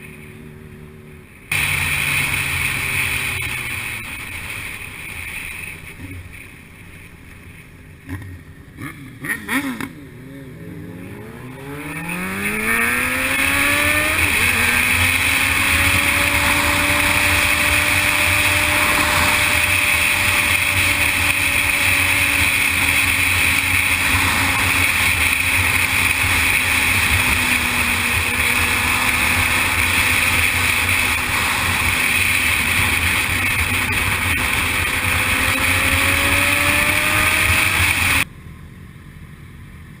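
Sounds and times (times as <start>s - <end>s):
motorcycle engine accelerating: 0.0s - 38.5s.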